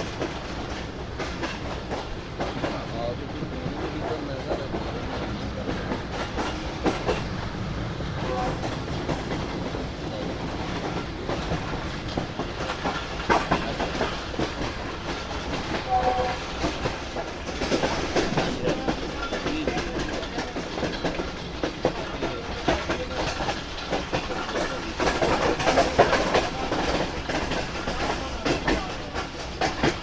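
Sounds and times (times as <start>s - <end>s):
clicks and rattles of train: 0.0s - 30.0s
train wheels rumbling: 0.0s - 30.0s.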